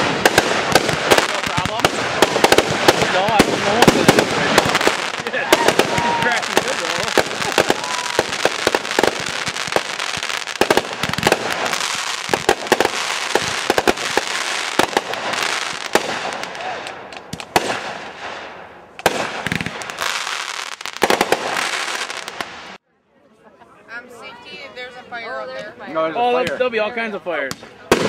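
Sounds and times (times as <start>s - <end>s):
firework hiss: 0.0s - 22.8s
firework shells bursting with bangs: 0.0s - 22.8s.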